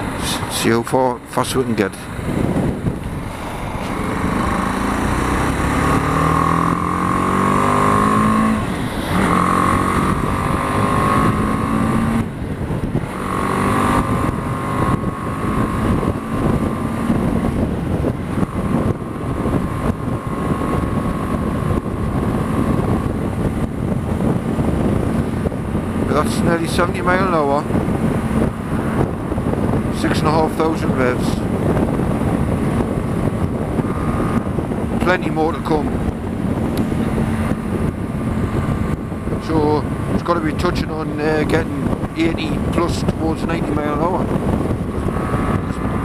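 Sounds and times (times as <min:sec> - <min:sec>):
motorcycle engine accelerating: 0:02.2 - 0:46.0.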